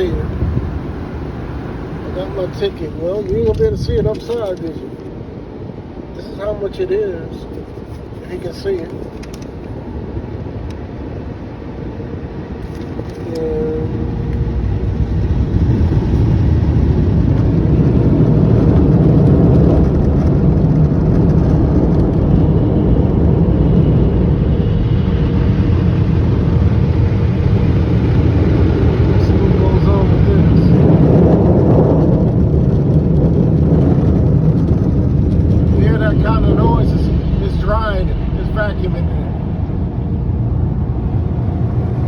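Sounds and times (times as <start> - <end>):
car wash machinery rushing: 0.0 - 10.1, 11.6 - 42.0.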